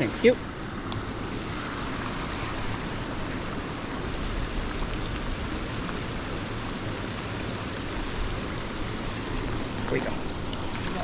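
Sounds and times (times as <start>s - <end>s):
heavy rain falling: 0.0s - 11.0s
faint ticks of raindrops: 0.7s - 11.0s.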